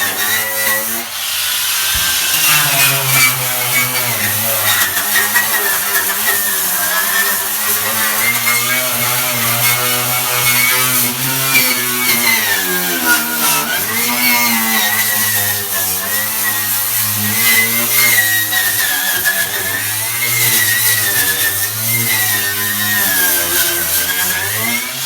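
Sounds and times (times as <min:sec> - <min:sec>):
motor running: 0:00.0 - 0:25.0.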